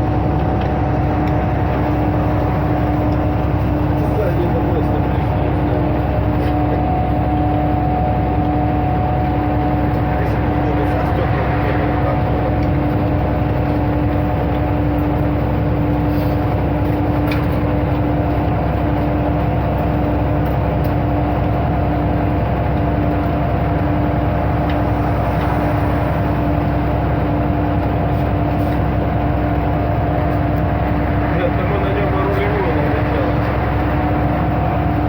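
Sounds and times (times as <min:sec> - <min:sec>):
bus diesel engine running: 0:00.0 - 0:35.0
engine whine: 0:00.0 - 0:35.0.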